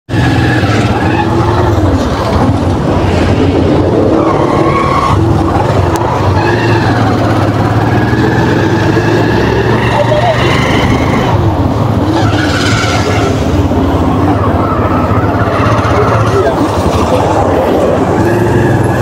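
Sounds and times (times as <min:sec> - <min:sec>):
road noise: 0:00.0 - 0:19.0
motorcycle engine running: 0:00.1 - 0:19.0.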